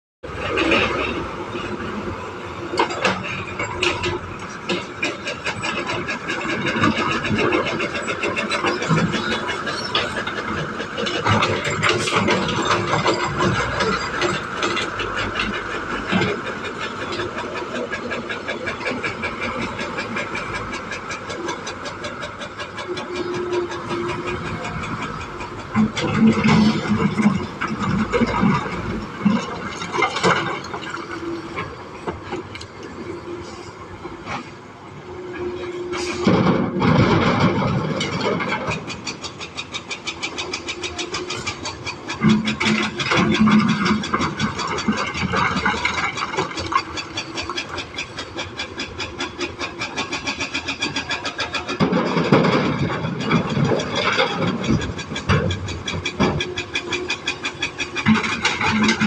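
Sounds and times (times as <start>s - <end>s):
excavator engine running: 0.2s - 59.0s.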